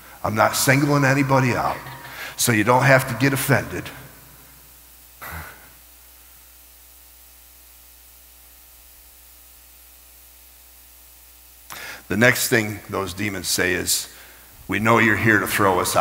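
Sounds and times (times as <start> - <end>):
faint low electrical hum: 0.0 - 16.0
steady hiss: 0.0 - 16.0.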